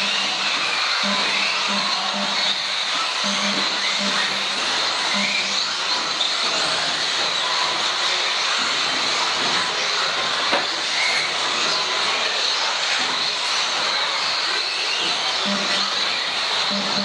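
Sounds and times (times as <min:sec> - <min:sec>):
electric toy cars whining: 0:00.0 - 0:17.0.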